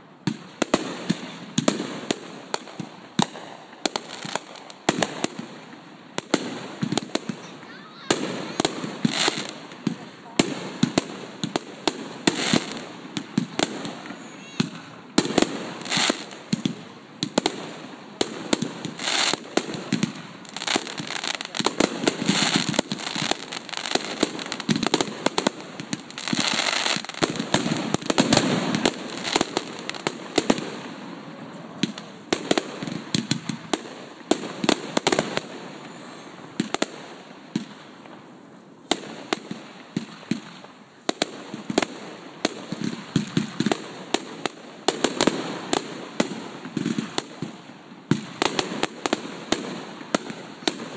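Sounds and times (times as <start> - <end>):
firework bangs: 0.0 - 38.2, 38.8 - 50.9
firework crackling: 0.0 - 50.9.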